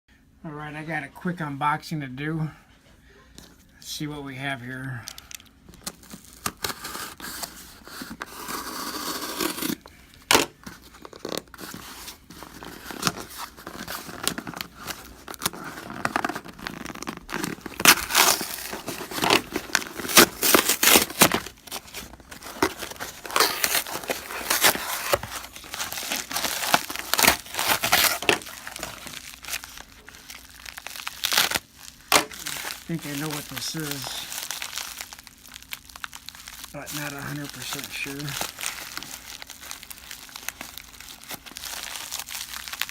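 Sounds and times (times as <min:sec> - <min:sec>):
packaging tearing and crinkling: 0:05.1 - 0:42.9.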